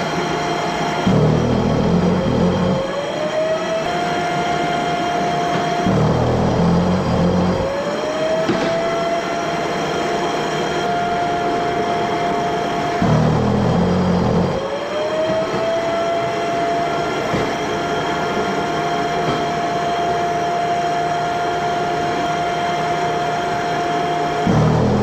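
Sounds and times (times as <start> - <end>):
floor grinder whining: 0.0 - 25.0.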